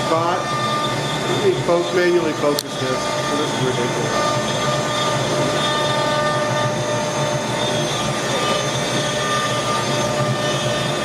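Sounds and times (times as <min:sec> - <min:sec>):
machine whine: 0:00.0 - 0:11.0.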